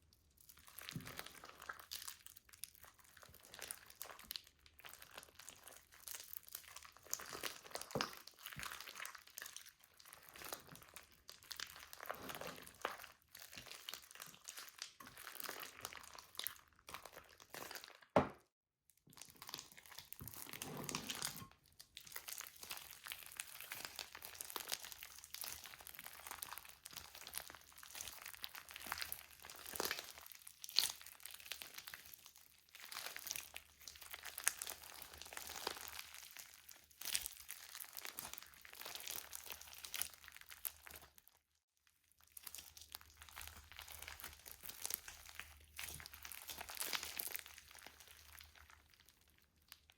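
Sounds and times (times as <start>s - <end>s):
slime squishing by hand: 0.1s - 41.3s, 42.2s - 49.9s.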